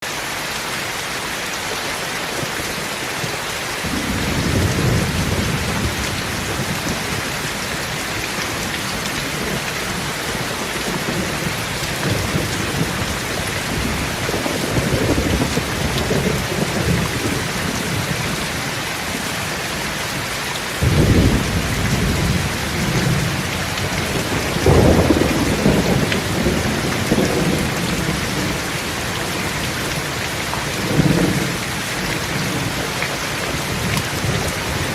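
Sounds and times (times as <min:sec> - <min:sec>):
steady rain hissing: 0:00.0 - 0:34.9.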